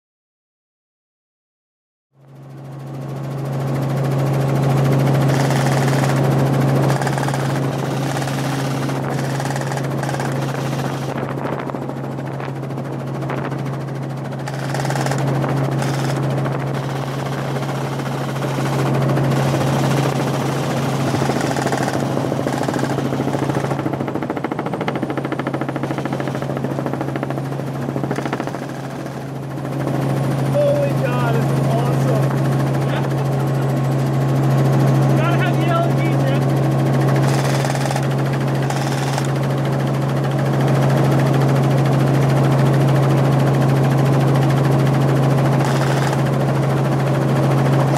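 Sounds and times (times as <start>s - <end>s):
helicopter rotor and engine drone: 2.2s - 47.9s.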